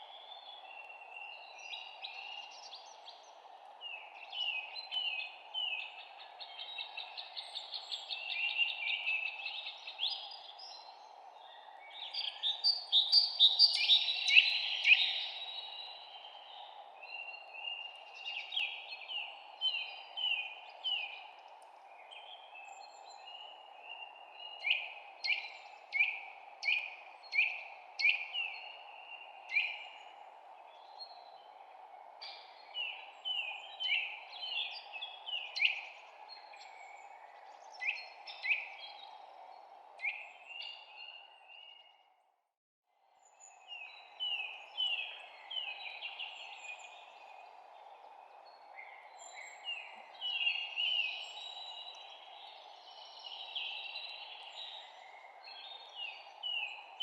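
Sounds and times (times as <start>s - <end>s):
songbirds chirping: 0.0s - 42.2s, 43.0s - 57.0s.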